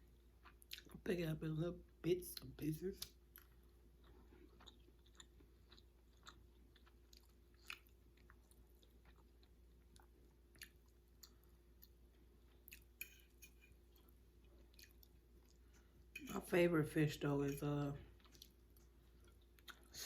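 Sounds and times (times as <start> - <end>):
faint chewing: 0.0 - 1.0, 2.3 - 16.5, 17.4 - 20.0.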